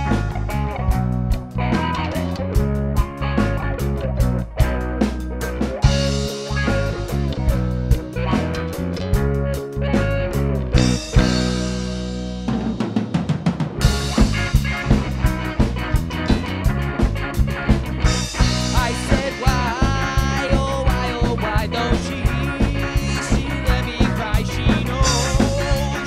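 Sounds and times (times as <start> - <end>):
bending lead guitar line: 0.0 - 26.0
drums fast beat: 0.0 - 26.0
rock band playing: 0.0 - 26.0.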